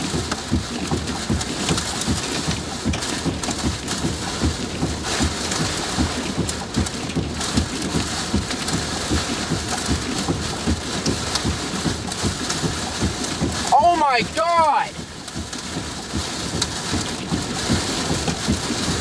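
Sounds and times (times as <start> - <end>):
wind buffeting thumps: 0.0 - 13.8, 14.9 - 19.0
heavy rain hitting vehicle: 0.0 - 19.0.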